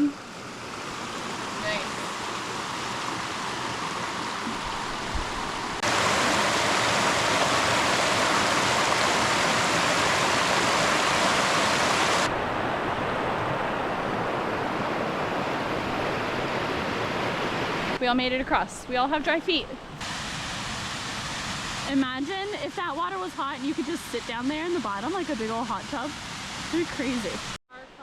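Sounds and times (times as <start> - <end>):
creek water rushing: 0.0 - 18.0, 19.2 - 28.0.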